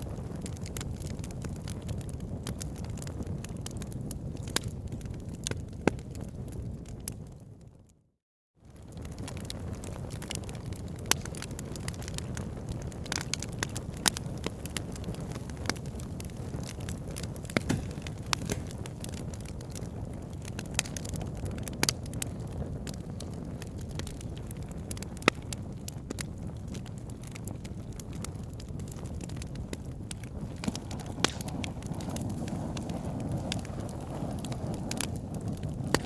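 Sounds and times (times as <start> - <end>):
fire burning and crackling: 0.0 - 8.0, 8.6 - 36.0.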